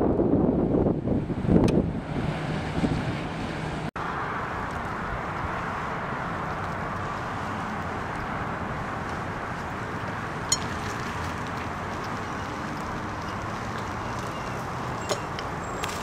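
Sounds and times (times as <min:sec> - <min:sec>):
wind buffeting microphone: 0:00.0 - 0:15.5
car road and engine noise: 0:00.0 - 0:16.0.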